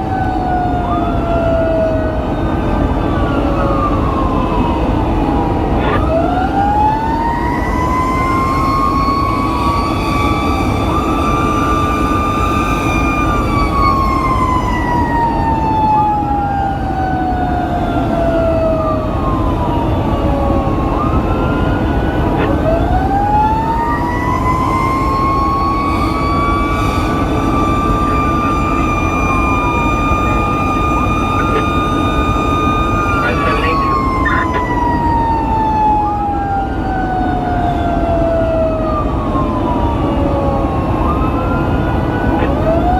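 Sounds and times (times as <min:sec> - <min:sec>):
fire engine siren wailing: 0:00.0 - 0:42.9
truck engine and road rumble: 0:00.0 - 0:42.9.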